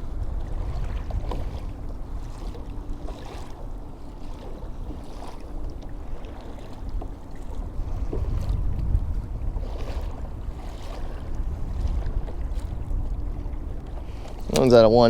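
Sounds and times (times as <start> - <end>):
water sounds: 0.0 - 15.0
wind on microphone: 0.0 - 15.0.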